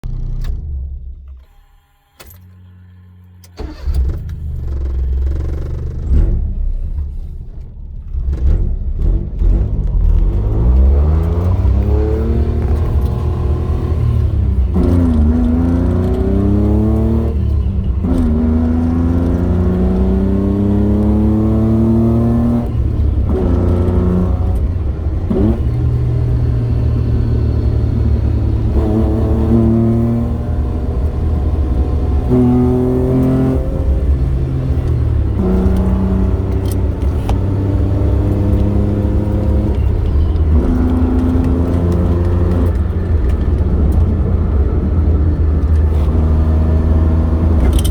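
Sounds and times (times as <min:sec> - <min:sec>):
car engine accelerating: 0:02.5 - 0:47.9.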